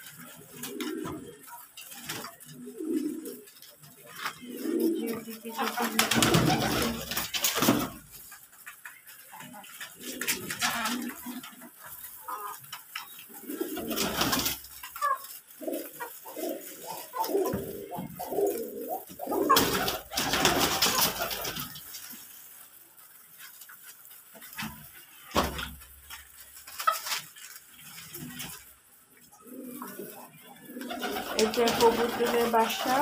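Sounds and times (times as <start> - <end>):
pigeons cooing: 0.0 - 21.9, 26.8 - 33.0.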